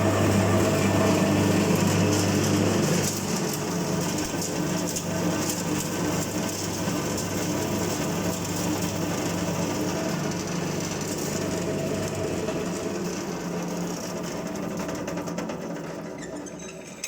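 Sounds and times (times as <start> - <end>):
shredding machine motor hum: 0.0 - 15.4
fine continuous crackle: 0.1 - 14.9.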